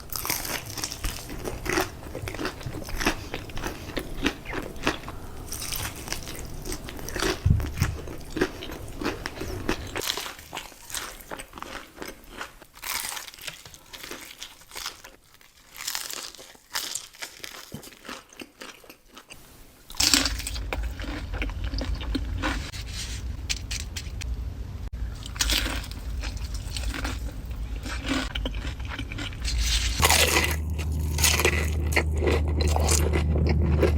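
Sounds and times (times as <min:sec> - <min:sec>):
crunching and chewing fried chicken: 0:00.0 - 0:24.2, 0:25.0 - 0:33.9.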